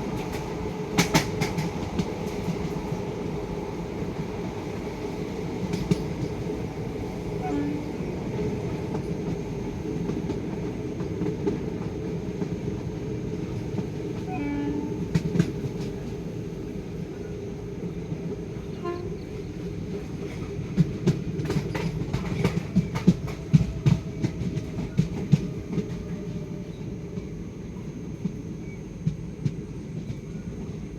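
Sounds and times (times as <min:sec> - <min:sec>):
train rumbling on track: 0:00.0 - 0:30.9.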